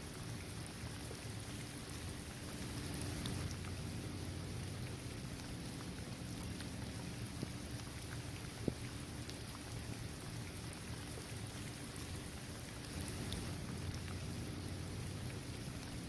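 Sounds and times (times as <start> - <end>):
steady rain falling: 0.0 - 16.0
raindrop ticks: 2.5 - 16.0.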